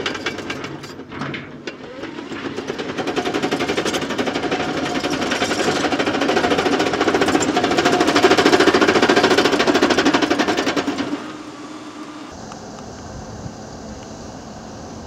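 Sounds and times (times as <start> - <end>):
heavy machinery rattling: 0.0 - 12.4.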